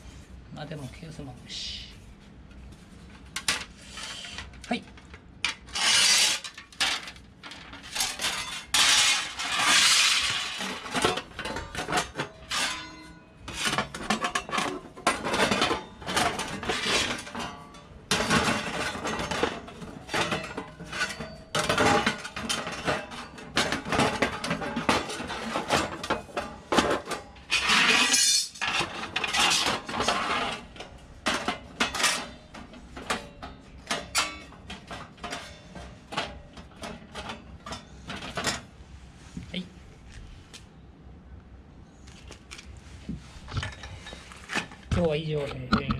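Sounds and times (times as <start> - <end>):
metal plates clinking and scraping: 3.3 - 38.7, 43.5 - 45.0.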